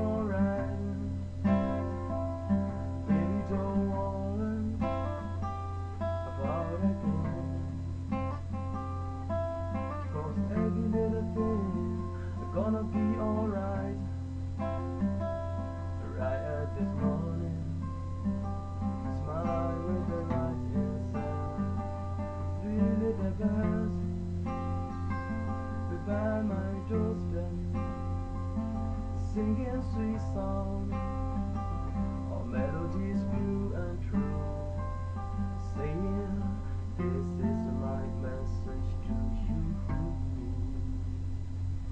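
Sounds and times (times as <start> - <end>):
acoustic guitar playing: 0.0 - 41.9.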